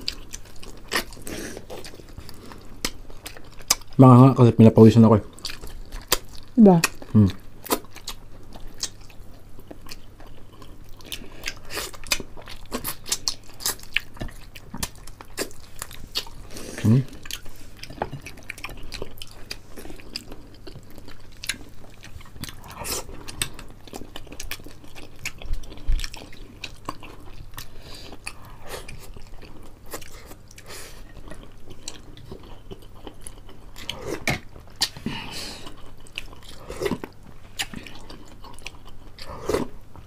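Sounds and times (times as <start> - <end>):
people chewing and crunching: 0.0 - 40.0.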